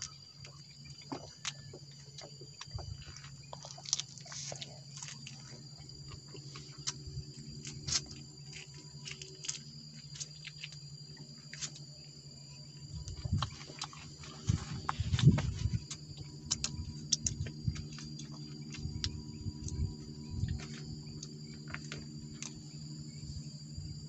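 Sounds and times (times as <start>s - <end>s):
small clicks and crunches: 0.0s - 11.9s, 13.0s - 22.6s
low hum: 0.0s - 24.0s
person chewing food: 0.4s - 10.8s, 13.0s - 22.6s.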